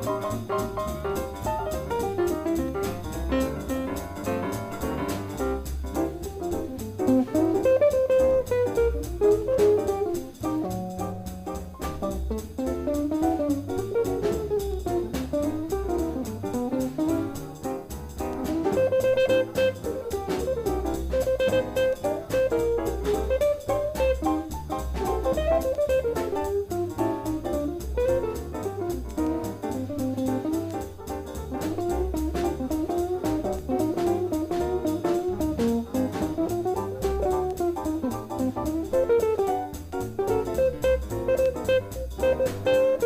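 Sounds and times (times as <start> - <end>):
bass: 0.0 - 43.0
drums with cymbal beat: 0.0 - 43.0.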